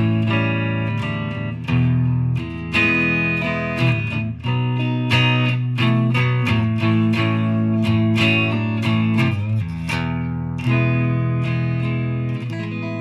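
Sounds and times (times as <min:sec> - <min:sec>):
electric guitar chords strummed: 0:00.0 - 0:13.0.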